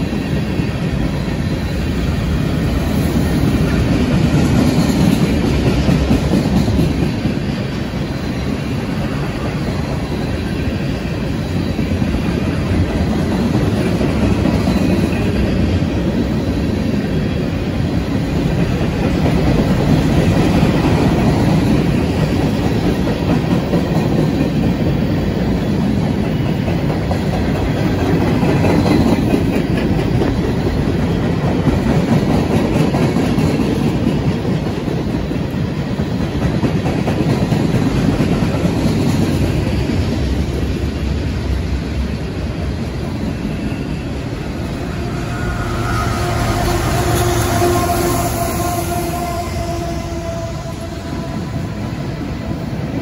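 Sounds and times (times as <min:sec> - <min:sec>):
steel wheels rumbling on rails: 0:00.0 - 0:53.0.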